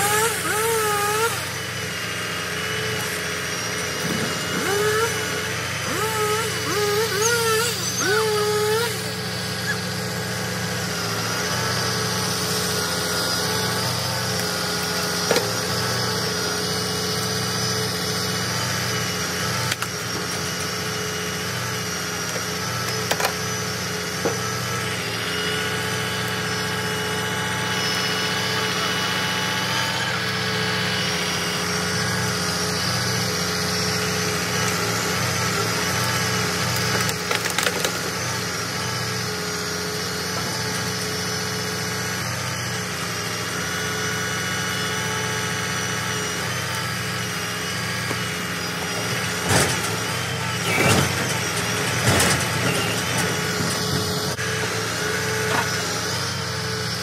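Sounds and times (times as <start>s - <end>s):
hydraulic whine: 0.0s - 57.0s
truck engine hum: 0.0s - 57.0s.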